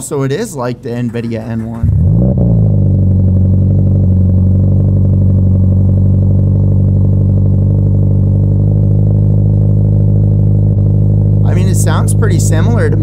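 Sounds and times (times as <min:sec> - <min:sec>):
low-pitched car exhaust note: 0:01.7 - 0:13.0.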